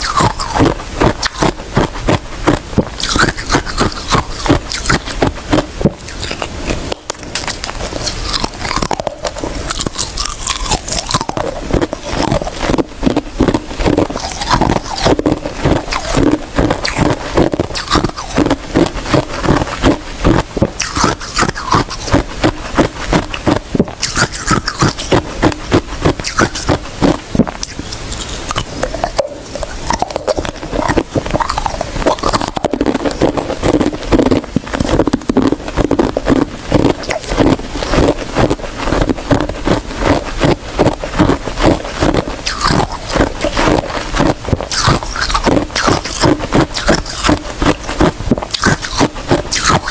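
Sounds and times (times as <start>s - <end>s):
ice being chewed: 0.0s - 49.9s.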